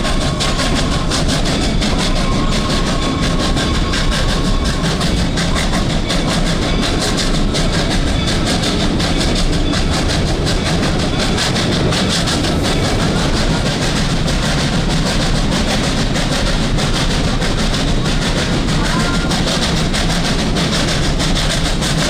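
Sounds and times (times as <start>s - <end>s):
train coaches rumbling on rails: 0.0s - 22.0s.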